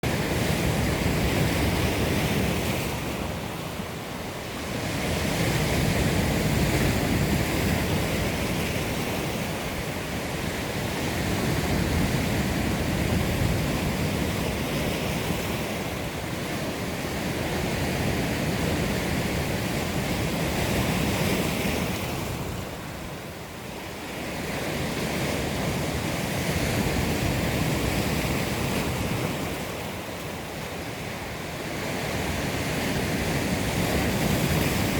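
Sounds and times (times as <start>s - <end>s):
waves breaking on shore: 0.0s - 34.9s.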